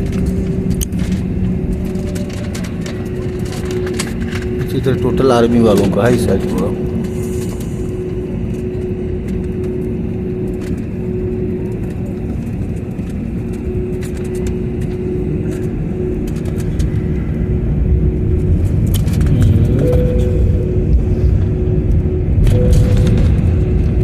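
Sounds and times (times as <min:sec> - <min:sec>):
airliner engines rumbling: 0:00.0 - 0:24.0
cabin hum: 0:00.0 - 0:24.0.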